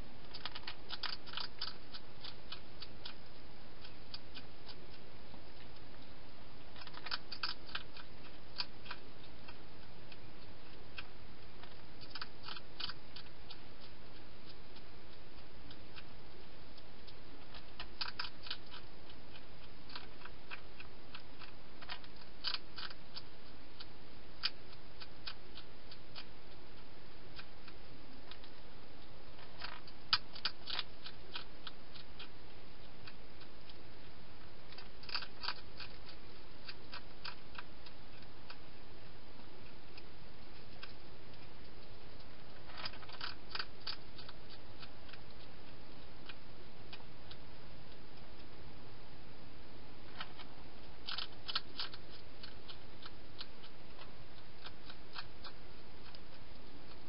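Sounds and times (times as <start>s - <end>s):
hedgehog crunching food: 0.0s - 57.0s.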